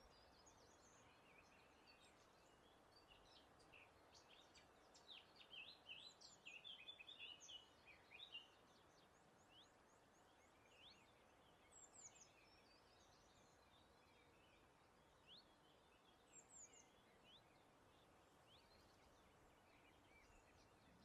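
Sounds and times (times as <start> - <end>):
soft breeze: 0.0 - 21.0
songbirds chirping and singing: 0.0 - 21.0.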